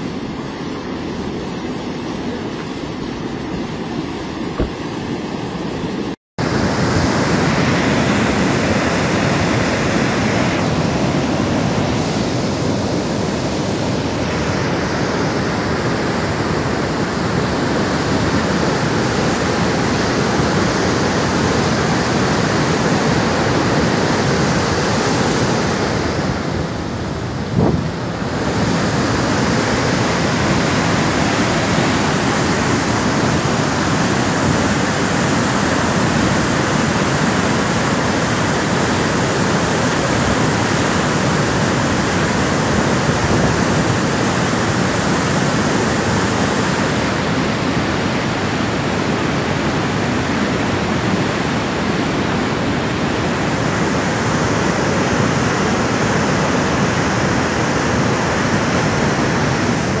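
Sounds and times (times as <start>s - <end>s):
flood water roaring: 0.0s - 60.0s.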